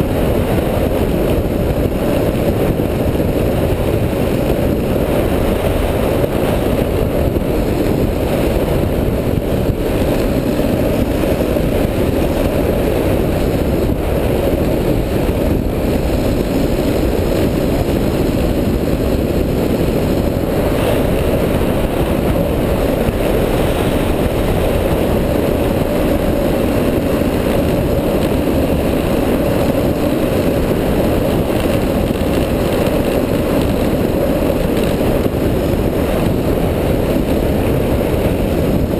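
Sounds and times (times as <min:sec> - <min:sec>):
wheels rolling over asphalt: 0:00.0 - 0:38.9
wind rushing against camera: 0:00.0 - 0:38.9.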